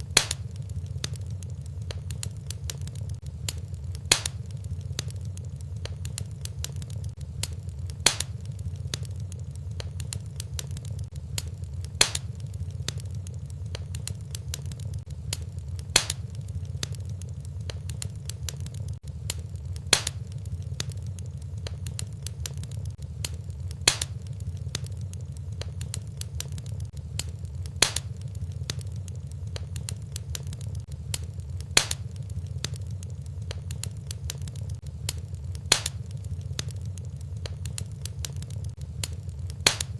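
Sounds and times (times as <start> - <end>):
fire popping loudly: 0.0 - 39.9
wood fire crackling: 0.0 - 39.9.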